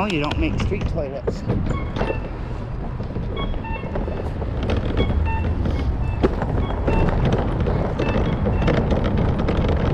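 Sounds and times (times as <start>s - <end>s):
low traffic rumble: 0.0s - 9.9s
wind buffeting microphone: 0.0s - 9.9s.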